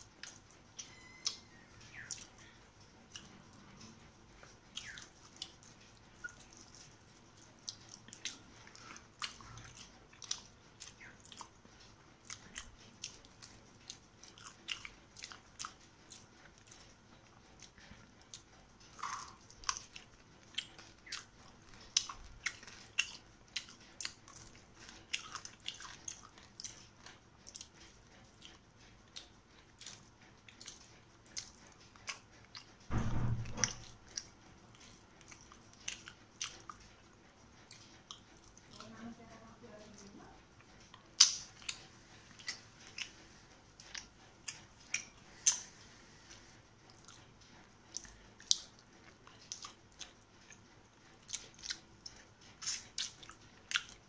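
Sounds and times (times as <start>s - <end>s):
chewing mouth clicks and smacks: 0.0s - 3.5s, 4.4s - 32.8s, 34.0s - 38.9s, 40.6s - 45.8s, 46.8s - 54.0s.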